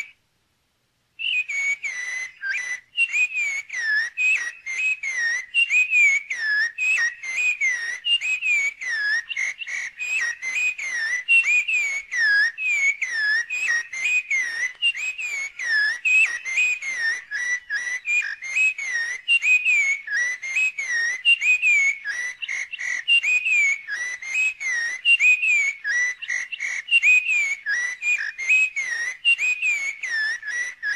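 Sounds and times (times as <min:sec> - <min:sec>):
rapid whistled notes: 0:01.2 - 0:30.9.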